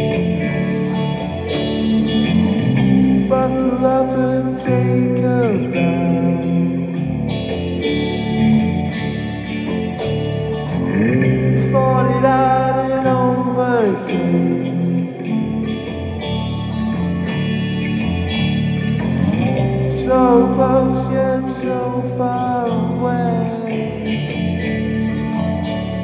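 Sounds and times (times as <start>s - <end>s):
electric guitar bending notes: 0.0s - 26.0s
rock band playing: 0.0s - 26.0s.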